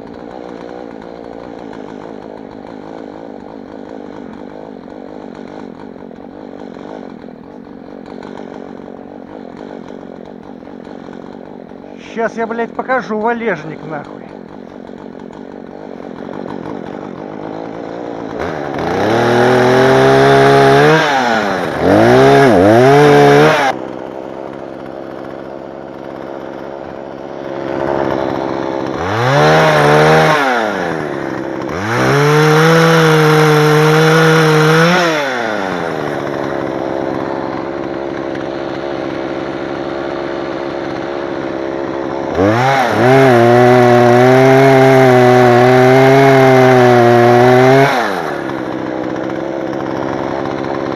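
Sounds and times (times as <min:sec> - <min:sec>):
two-stroke chainsaw revving: 0:00.0 - 0:50.9.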